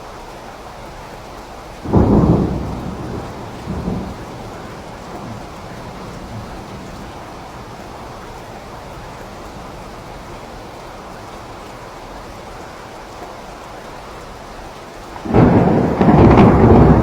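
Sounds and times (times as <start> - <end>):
steady rain: 0.0 - 17.0
thunder rumbling: 1.8 - 13.0, 14.3 - 17.0.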